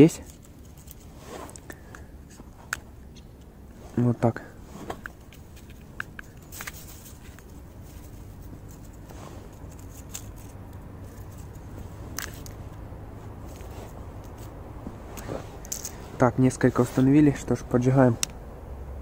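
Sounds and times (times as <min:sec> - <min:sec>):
handling clicks and rustles: 0:00.0 - 0:18.4
low steady rumble: 0:00.0 - 0:19.0.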